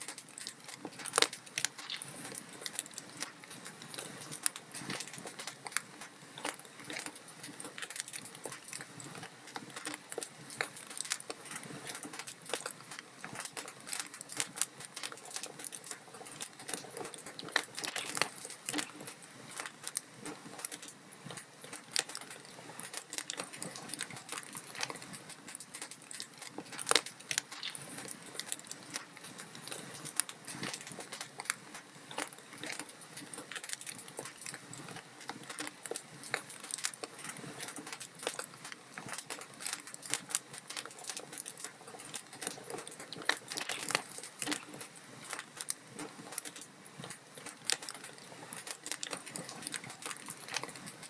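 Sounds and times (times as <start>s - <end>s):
log fire crackling: 0.0s - 51.0s.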